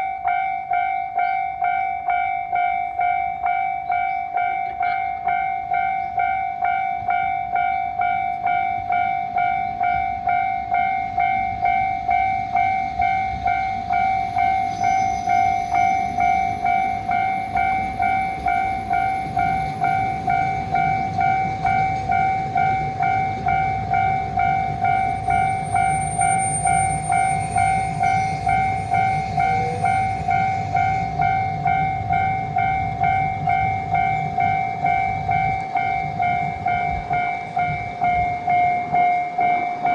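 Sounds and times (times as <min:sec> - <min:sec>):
railroad crossing bell ringing: 0:00.0 - 0:39.9
train passing with low rumble: 0:00.0 - 0:39.9.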